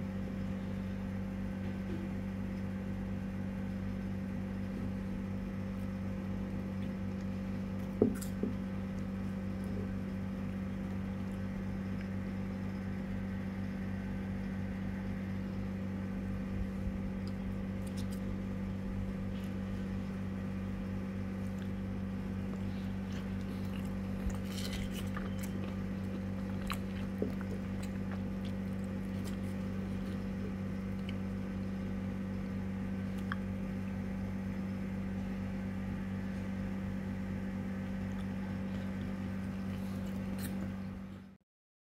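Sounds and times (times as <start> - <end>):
low mechanical hum: 0.0 - 41.4.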